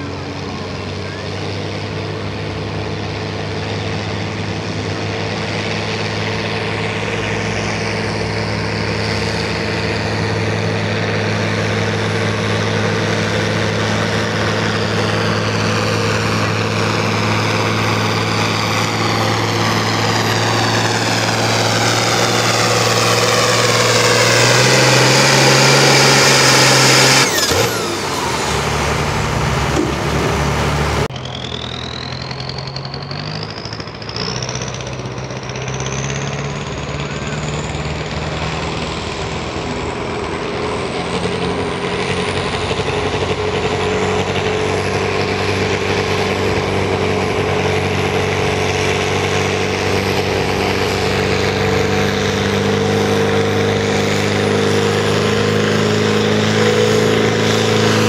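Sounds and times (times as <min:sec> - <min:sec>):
tractor diesel engine at full throttle: 0:00.0 - 0:58.0.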